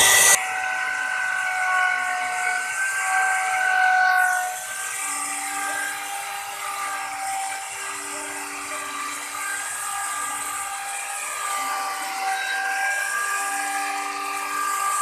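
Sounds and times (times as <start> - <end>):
router cutting wood: 0.0 - 15.0.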